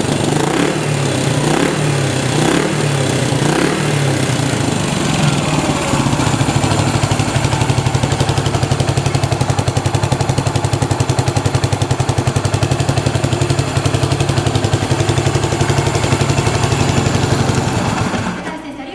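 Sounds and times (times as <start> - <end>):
motorcycle engine idling: 0.0 - 18.8.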